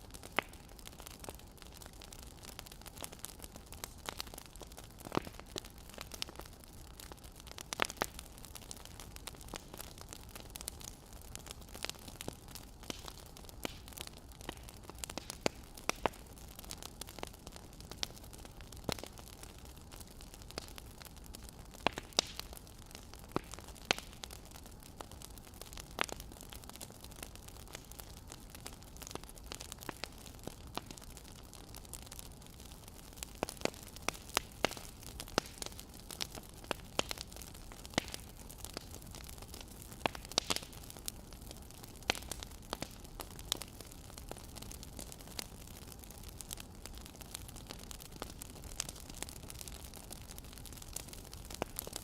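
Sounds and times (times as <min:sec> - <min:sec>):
firewood crackling: 0:00.0 - 0:52.0.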